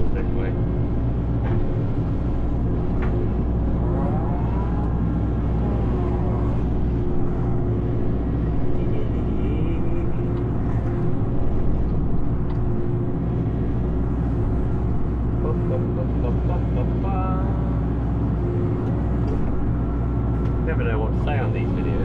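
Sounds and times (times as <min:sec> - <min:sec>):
diesel engine running: 0:00.0 - 0:22.0
rising and falling whine: 0:00.0 - 0:22.0.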